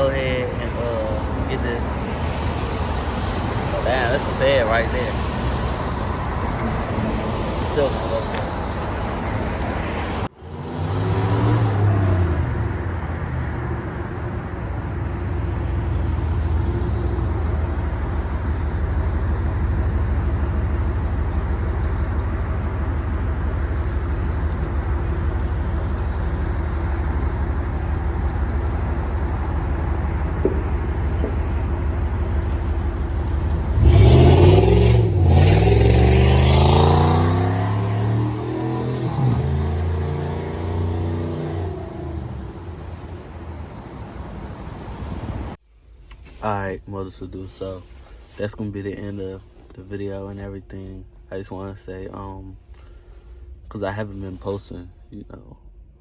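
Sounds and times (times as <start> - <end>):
engine revving: 0.0 - 45.6
engine exhaust drone: 0.0 - 56.0.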